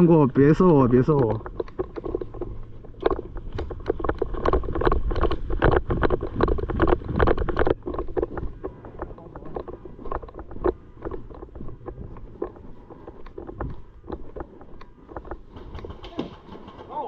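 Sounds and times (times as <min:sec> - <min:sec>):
wind buffeting microphone: 0:00.0 - 0:16.0
footsteps: 0:00.0 - 0:17.0
knocking and clicking of gear: 0:00.5 - 0:17.0.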